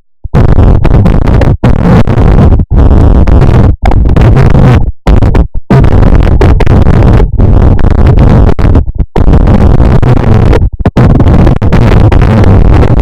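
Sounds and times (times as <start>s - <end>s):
dense distorted noise: 0.0s - 13.0s.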